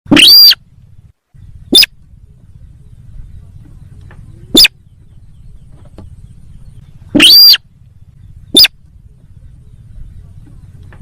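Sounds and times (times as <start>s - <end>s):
bird calls: 0.1s - 11.0s
low steady hum: 0.1s - 11.0s.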